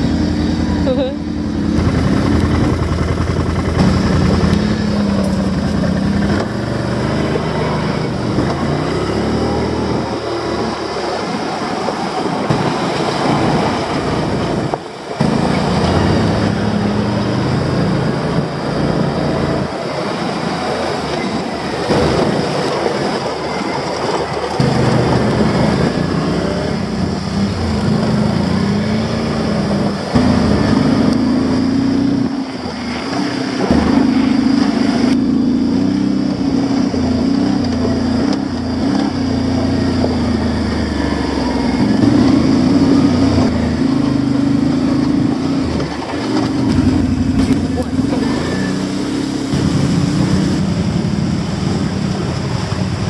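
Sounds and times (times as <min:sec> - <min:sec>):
atv engine running: 0:00.0 - 0:53.0
steady rushing noise: 0:00.0 - 0:53.0.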